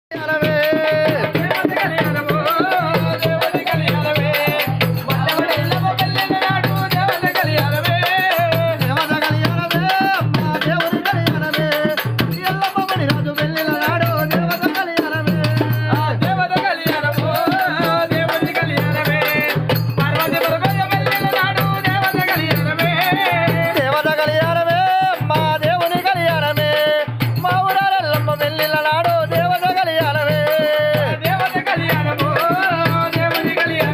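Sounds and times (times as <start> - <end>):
person singing: 0.1 - 33.9
string drum rattling rhythm: 0.1 - 33.9.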